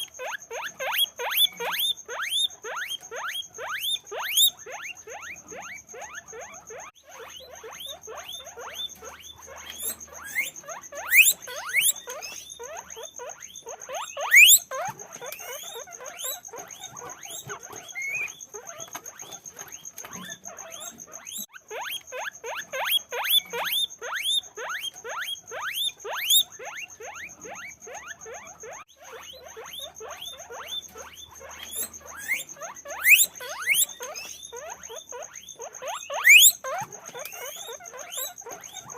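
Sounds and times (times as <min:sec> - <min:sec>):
guinea pigs squeaking: 0:00.0 - 0:38.9.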